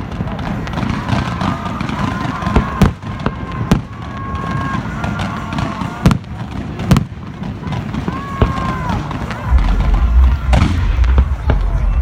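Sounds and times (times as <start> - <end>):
distant explosions: 0.0 - 12.0
fireworks sharp bangs: 0.0 - 12.0.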